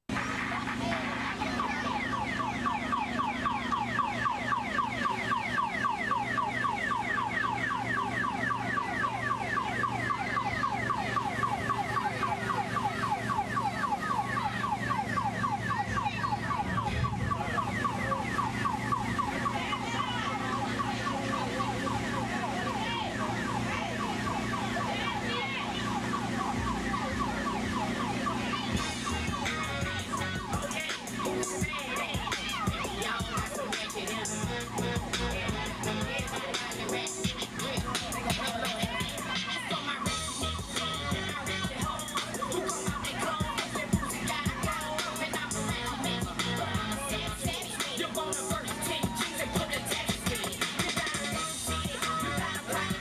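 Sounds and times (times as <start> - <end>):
electronic siren wailing: 0.4 - 53.0.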